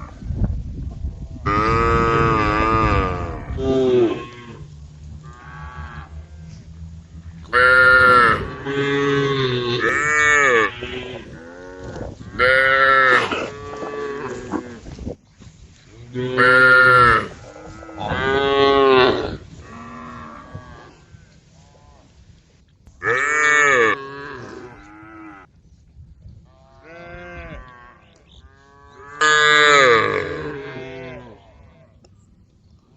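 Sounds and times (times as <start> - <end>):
cows mooing: 1.5 - 14.8, 16.1 - 22.0, 23.0 - 25.5, 26.6 - 31.9.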